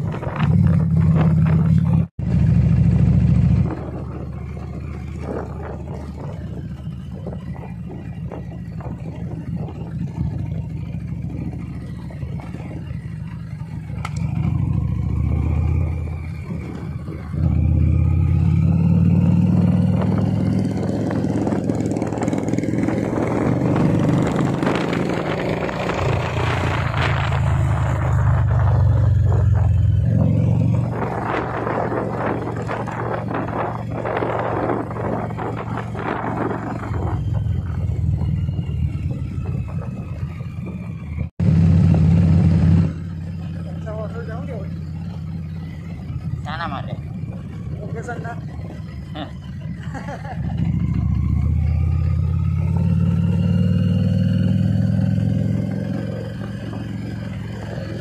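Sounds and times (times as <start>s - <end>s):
motorcycle engine rumble: 0.0s - 58.0s
road noise: 0.0s - 58.0s.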